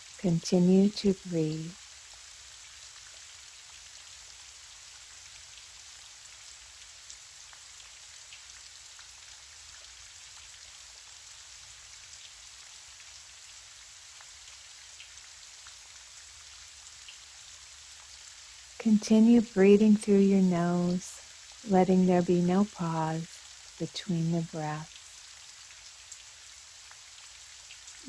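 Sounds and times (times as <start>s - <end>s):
gentle rain hiss: 0.0s - 28.0s.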